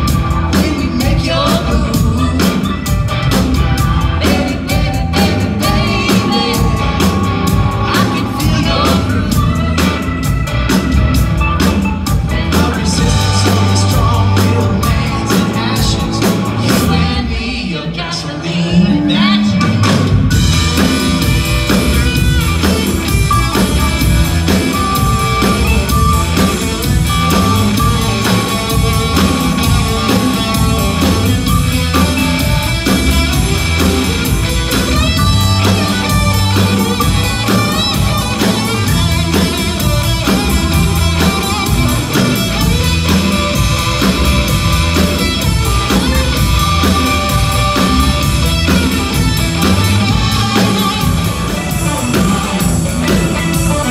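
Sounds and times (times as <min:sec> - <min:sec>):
electric guitar lead: 0:00.0 - 0:53.9
live blues band playing: 0:00.0 - 0:53.9.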